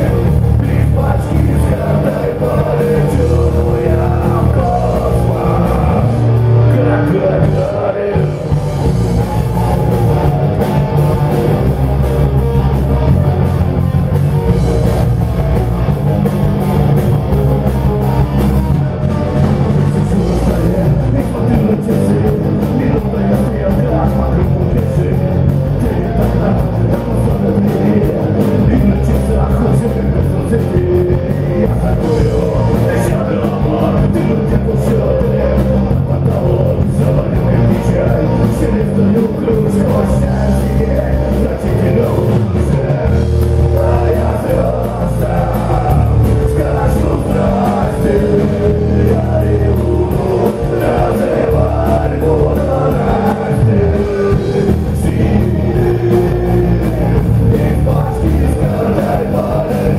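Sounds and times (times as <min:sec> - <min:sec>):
person singing: 0:00.0 - 0:15.9, 0:16.8 - 0:59.9
rock band playing live: 0:00.0 - 0:59.9.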